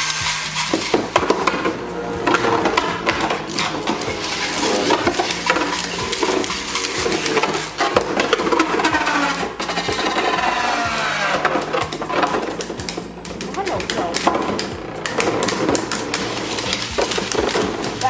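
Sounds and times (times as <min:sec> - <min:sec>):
spinning tops clashing: 0:00.0 - 0:18.0.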